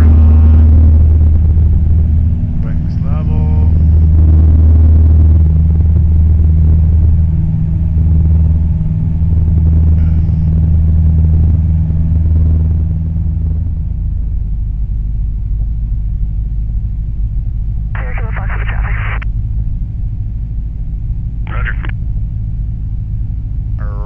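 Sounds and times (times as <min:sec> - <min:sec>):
plane engine and propeller droning: 0:00.0 - 0:24.0.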